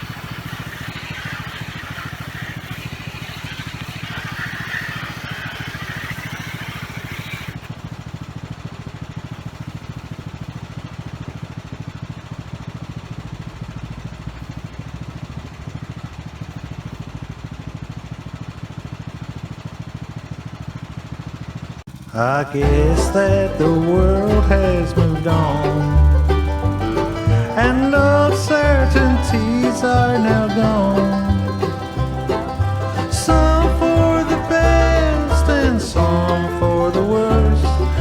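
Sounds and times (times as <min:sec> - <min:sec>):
small engine running: 0:00.0 - 0:38.0.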